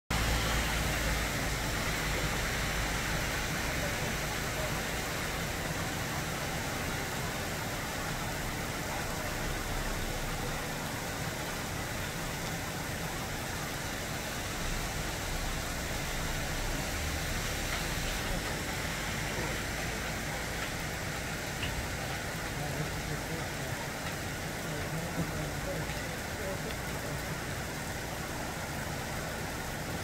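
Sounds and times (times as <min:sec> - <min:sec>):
rain falling on leaves: 0:00.1 - 0:30.0.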